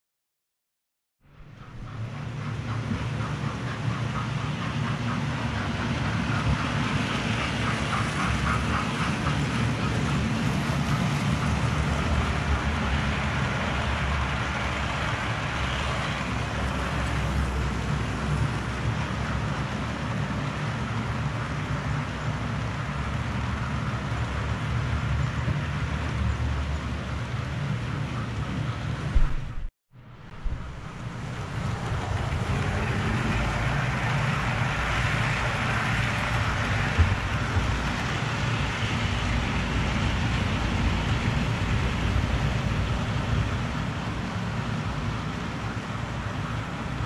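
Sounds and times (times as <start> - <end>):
model train rumble: 1.2 - 47.0.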